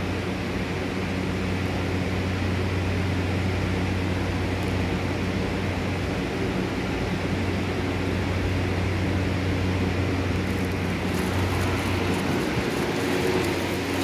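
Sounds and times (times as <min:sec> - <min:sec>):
electric train low hum: 0:00.0 - 0:14.0
train hiss and light ticking: 0:00.0 - 0:14.0.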